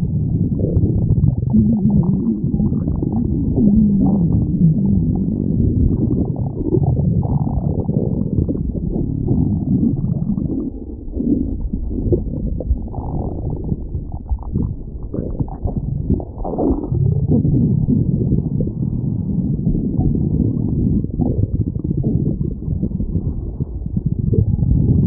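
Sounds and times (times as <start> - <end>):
stomach growling: 0.0 - 25.0.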